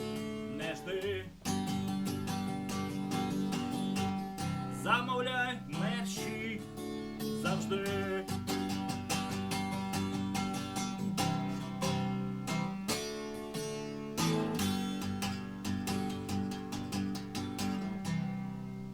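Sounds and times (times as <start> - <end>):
guitar chords strummed: 0.0 - 18.9.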